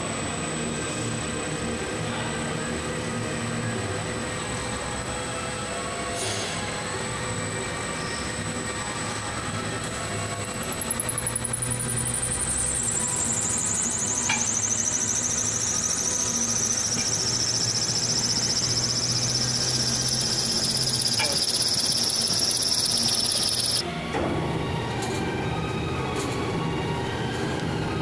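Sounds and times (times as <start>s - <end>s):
mixer high whine: 0.0s - 23.9s
rough mixer hum with rattles: 0.0s - 28.0s.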